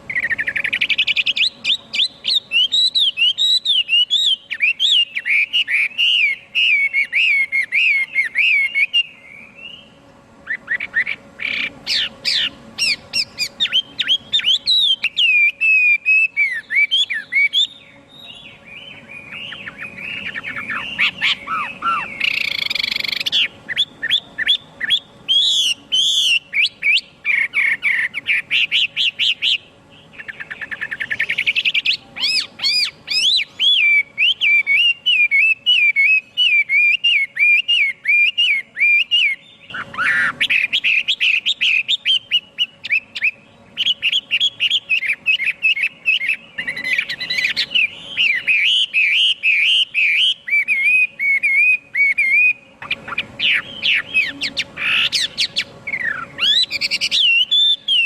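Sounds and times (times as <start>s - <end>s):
thrush singing whistled phrases: 0.0s - 58.0s.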